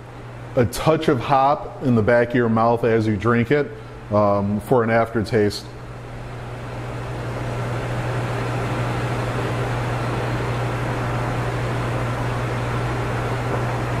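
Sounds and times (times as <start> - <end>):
machinery hum with hiss: 0.0 - 14.0.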